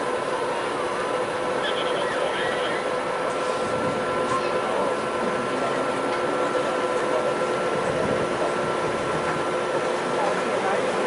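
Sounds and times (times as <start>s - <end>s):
diesel locomotive idling: 0.0s - 11.0s
steady whining tones: 0.0s - 11.0s.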